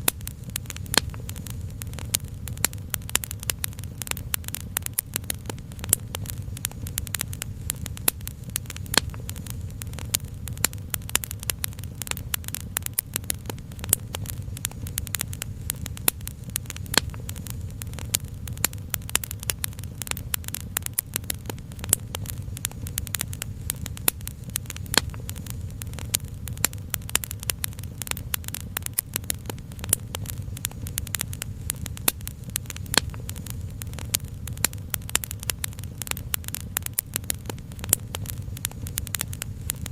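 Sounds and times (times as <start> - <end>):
low rumble: 0.0 - 36.6
fire crackling and popping: 0.0 - 39.9.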